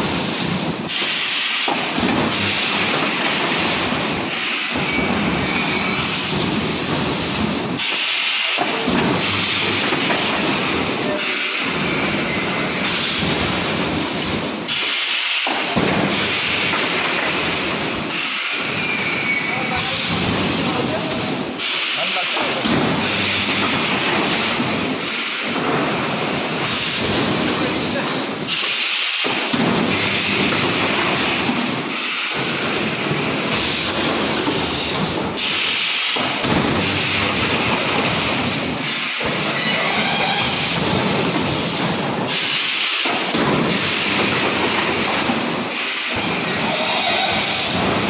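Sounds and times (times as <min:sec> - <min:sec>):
welding machine running: 0:00.0 - 0:48.0.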